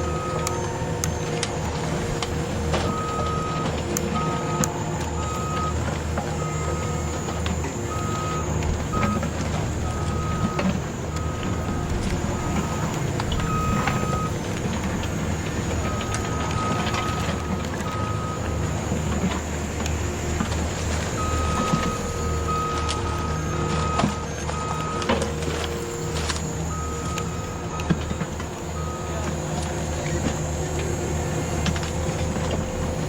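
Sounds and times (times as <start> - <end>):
reversing-style beep: 0.0 - 33.0
toy bulldozer motor drone: 0.0 - 33.0.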